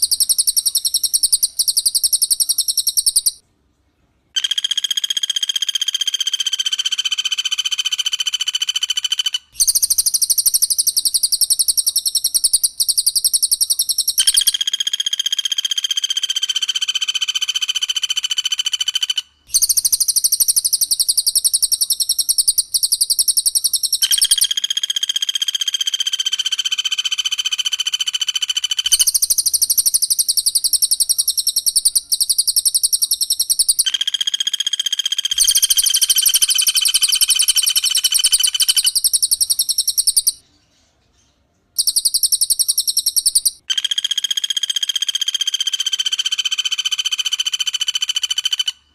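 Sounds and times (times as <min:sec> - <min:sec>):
long ringing bird whistle: 0:00.0 - 0:03.4, 0:09.6 - 0:18.9, 0:19.5 - 0:40.4, 0:41.8 - 0:48.9
rapid high-pitched bird trill: 0:00.0 - 0:03.4, 0:09.0 - 0:17.7, 0:18.4 - 0:40.4, 0:41.8 - 0:48.7.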